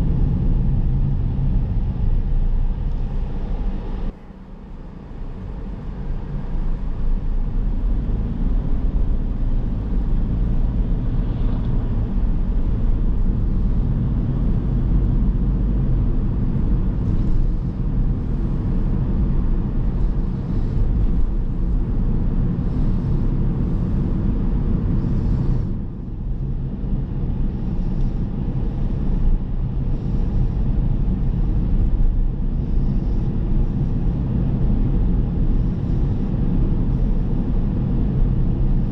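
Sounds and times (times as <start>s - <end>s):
tyres rumbling on road: 5.4s - 38.9s.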